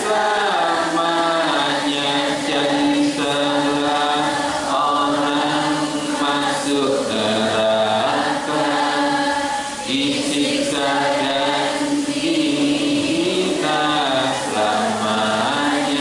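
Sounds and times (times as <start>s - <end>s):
man singing in chanting style: 0.0s - 16.0s.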